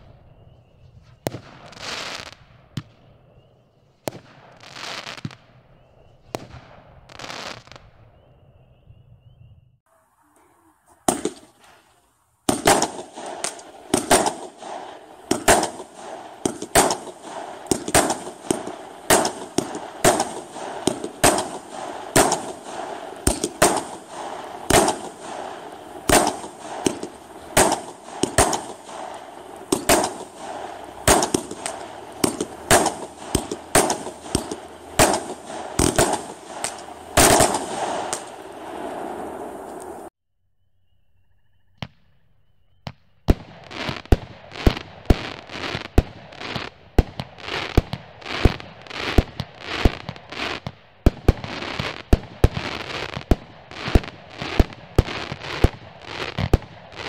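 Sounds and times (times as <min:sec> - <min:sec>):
firework crackle: 0:00.9 - 0:03.0, 0:04.0 - 0:05.6, 0:06.2 - 0:07.9, 0:09.9 - 0:40.1, 0:43.3 - 0:57.0
firework bangs: 0:01.0 - 0:03.1, 0:04.0 - 0:05.6, 0:06.2 - 0:07.9, 0:11.0 - 0:40.1, 0:42.9 - 0:57.0.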